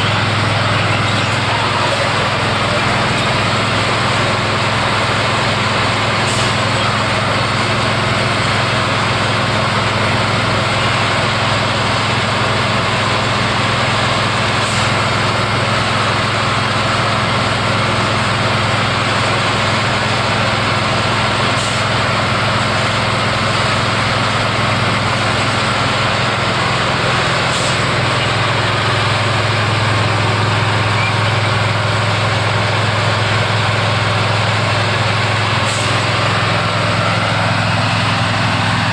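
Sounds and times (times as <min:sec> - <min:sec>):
machinery engine idling: 0:00.0 - 0:38.9.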